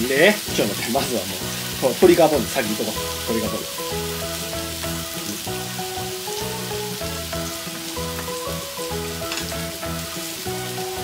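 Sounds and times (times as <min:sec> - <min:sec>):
background music: 0:00.0 - 0:11.0
food sizzling on hot plate: 0:00.0 - 0:11.0.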